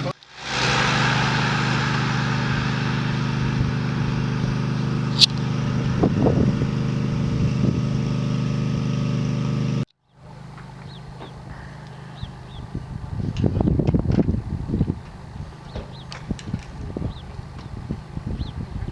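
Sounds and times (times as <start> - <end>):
engine droning steadily: 0.0 - 18.9.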